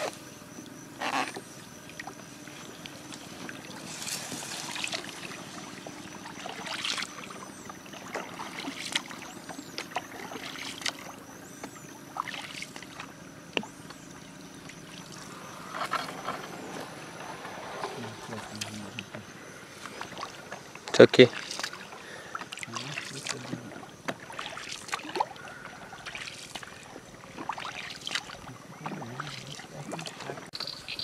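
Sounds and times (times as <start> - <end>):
paddle strokes splashing water: 0.0 - 31.0
water trickling: 0.4 - 16.6, 17.2 - 31.0.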